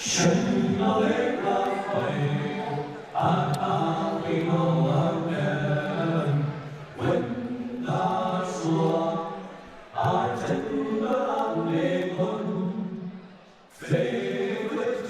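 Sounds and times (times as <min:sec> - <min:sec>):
choir-like chanted singing: 0:00.0 - 0:15.0.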